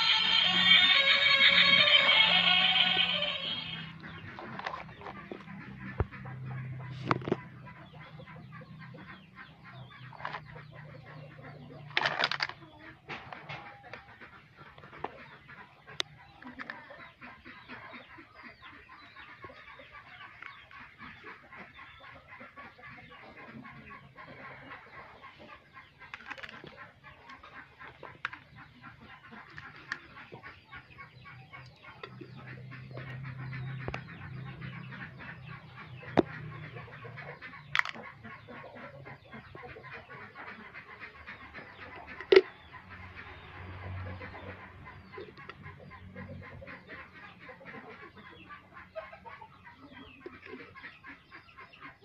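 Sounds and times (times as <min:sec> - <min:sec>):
chickens clucking: 0:00.0 - 0:52.0.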